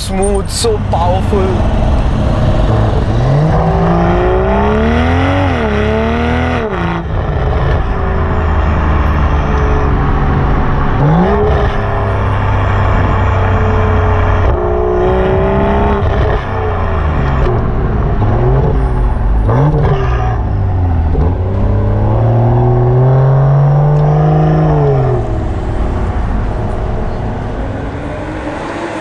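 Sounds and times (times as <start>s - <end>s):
car engine revving through exhaust: 0.6s - 29.0s.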